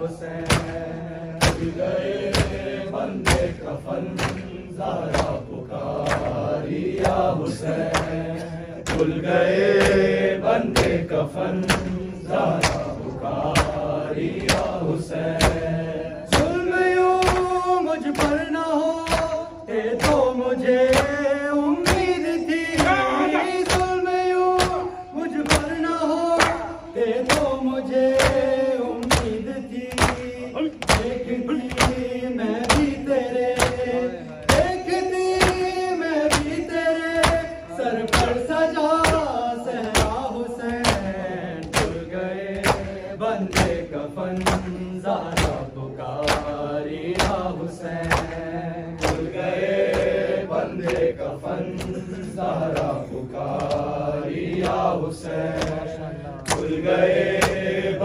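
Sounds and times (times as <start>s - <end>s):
men singing a lament in unison: 0.0s - 58.0s.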